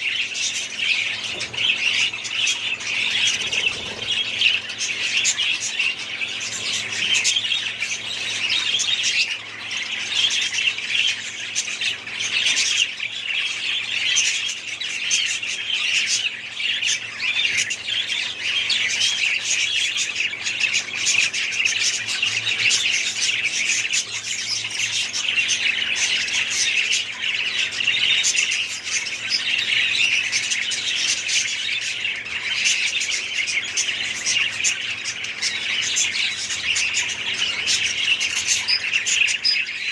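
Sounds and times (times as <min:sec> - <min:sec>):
parrots chattering and calling: 0:00.0 - 0:39.9.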